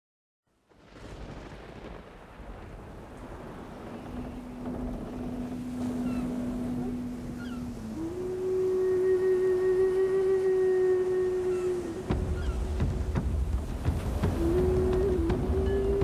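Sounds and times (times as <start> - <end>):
wind noise: 0.7 - 16.0
sea surf: 0.8 - 16.0.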